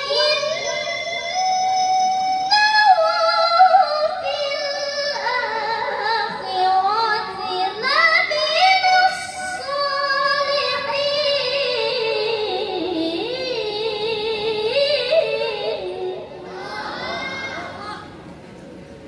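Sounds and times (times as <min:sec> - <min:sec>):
girl reciting melodically into microphone: 0:00.0 - 0:18.2.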